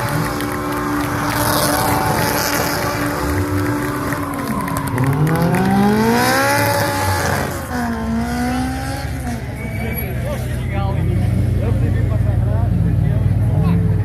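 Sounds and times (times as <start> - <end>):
high-revving rally car engine: 0.0 - 14.0.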